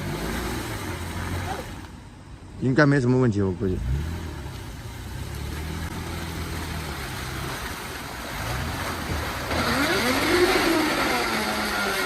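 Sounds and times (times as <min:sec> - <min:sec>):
car engine revving: 0:00.0 - 0:02.3, 0:03.5 - 0:12.0.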